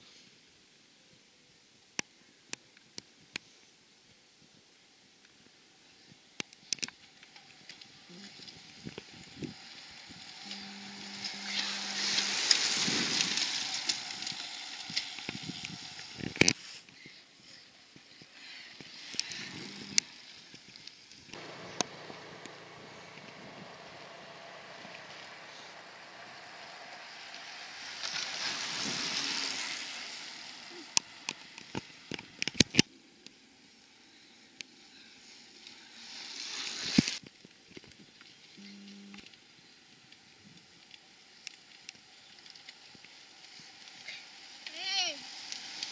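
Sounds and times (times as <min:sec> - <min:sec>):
light wind hiss: 0:00.0 - 0:38.6, 0:39.2 - 0:45.9
bicycles passing: 0:05.6 - 0:38.6, 0:39.3 - 0:45.9.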